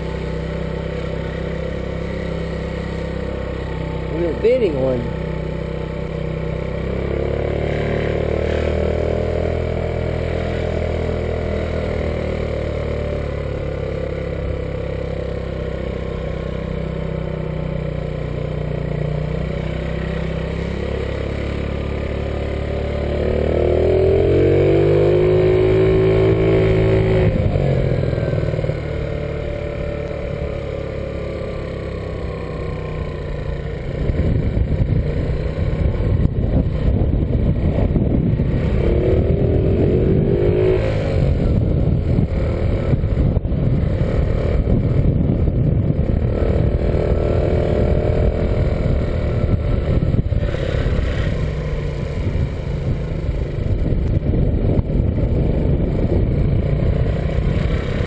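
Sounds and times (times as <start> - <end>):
motor scooter engine running: 0.0 - 58.0.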